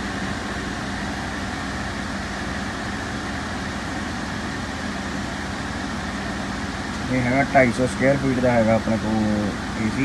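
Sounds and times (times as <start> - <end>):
air conditioner fan blowing: 0.0 - 10.0
constant low hum: 0.0 - 10.0.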